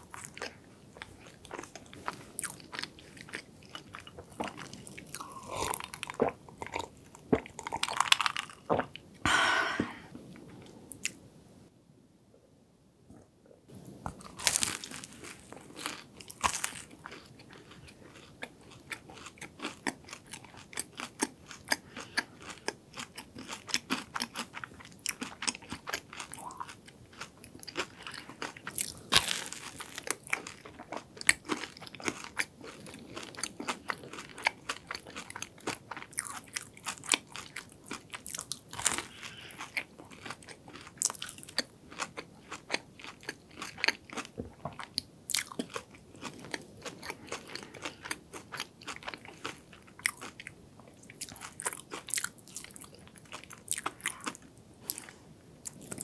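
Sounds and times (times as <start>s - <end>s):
crunching and chewing pastry: 0.0s - 9.1s, 14.0s - 56.0s.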